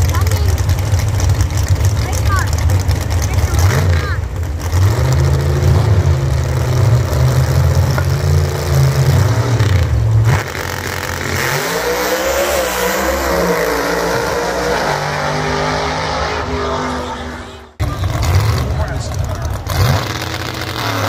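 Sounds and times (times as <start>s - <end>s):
drag racing cars accelerating: 0.0s - 21.0s.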